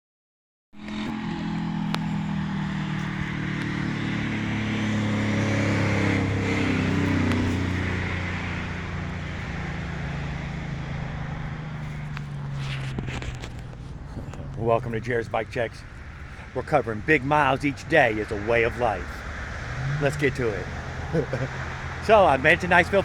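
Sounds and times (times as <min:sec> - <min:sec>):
small engine running: 0:00.8 - 0:23.0.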